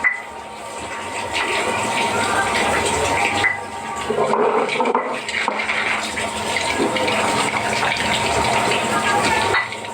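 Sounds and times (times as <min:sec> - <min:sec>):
water running and splashing: 0:00.5 - 0:09.9.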